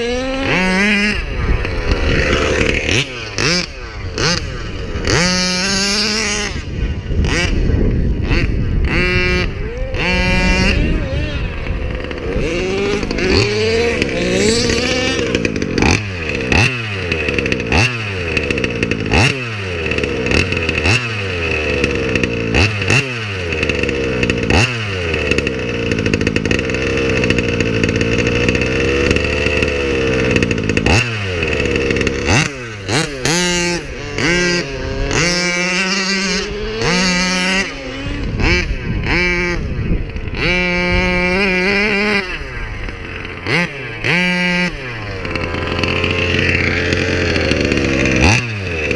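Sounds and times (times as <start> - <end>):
two-stroke engine revving: 0.0 - 48.9.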